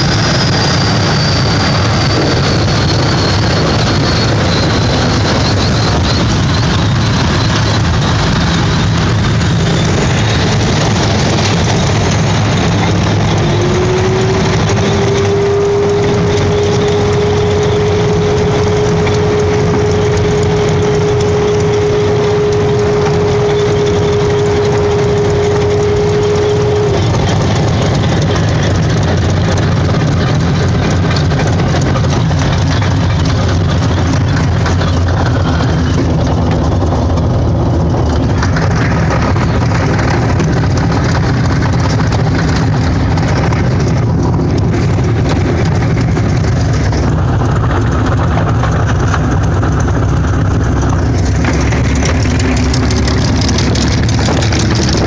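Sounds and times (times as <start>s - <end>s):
aircraft engine drone: 0.0s - 55.0s
steady whining tone: 0.0s - 55.0s
wind noise over canopy: 0.0s - 55.0s.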